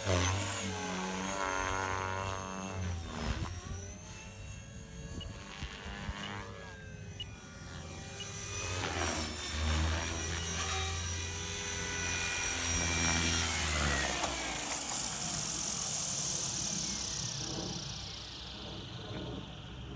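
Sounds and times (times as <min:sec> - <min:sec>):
motor spinning down whine: 0:00.0 - 0:19.9
rc helicopter rotor thrum: 0:00.0 - 0:19.9.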